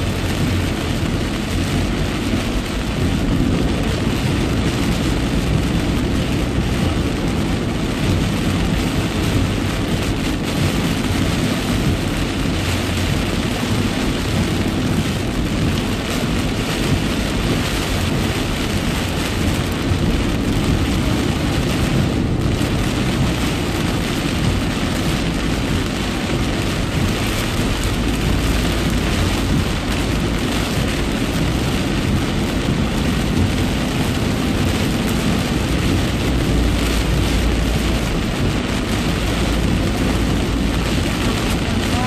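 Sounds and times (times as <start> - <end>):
constant low rumble: 0.0 - 42.0
heavy rain drumming on car: 0.0 - 42.0.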